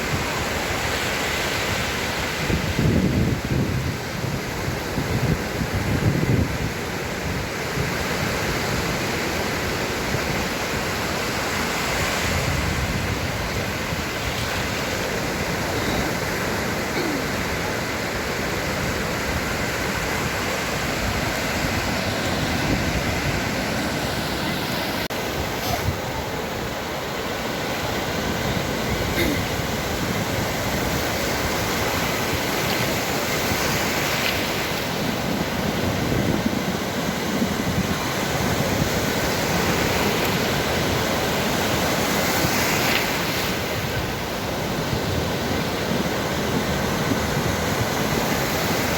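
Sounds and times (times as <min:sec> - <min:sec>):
sea surf rushing: 0:00.0 - 0:48.9.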